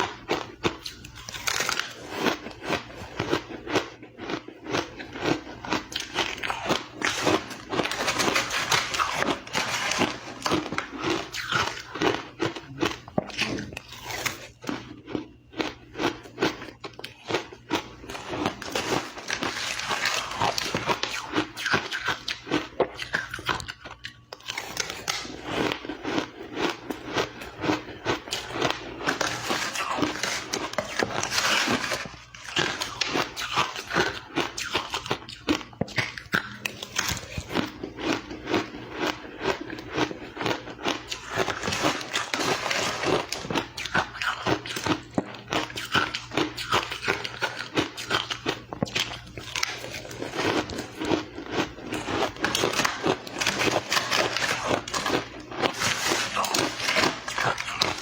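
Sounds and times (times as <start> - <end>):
chewing crushed ice: 0.0 - 58.0.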